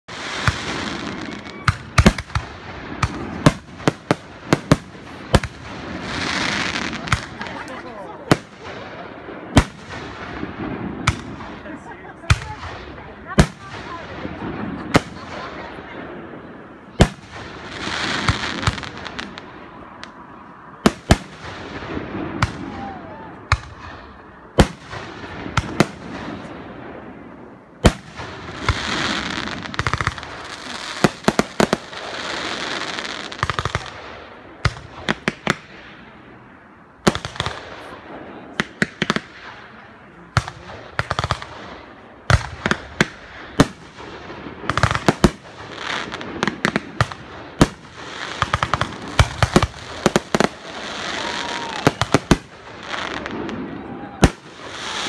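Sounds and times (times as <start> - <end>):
crackling firework sparkle: 0.1 - 55.0.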